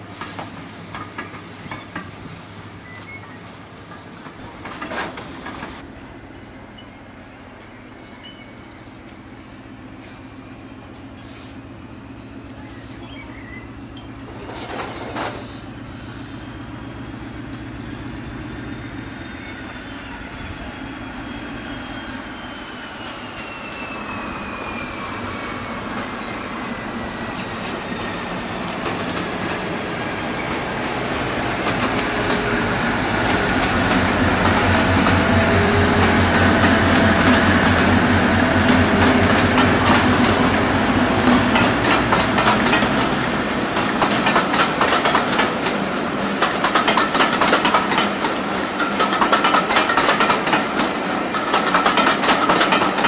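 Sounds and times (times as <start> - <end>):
train wheels clicking over rail joints: 0.0 - 6.2, 7.2 - 19.8, 25.4 - 53.0
diesel locomotive engine throb: 4.4 - 53.0.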